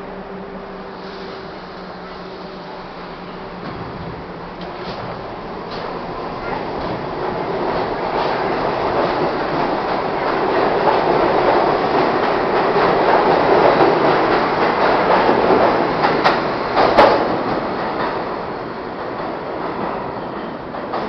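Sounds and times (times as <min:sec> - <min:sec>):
subway train wheels clattering: 0:00.0 - 0:21.0.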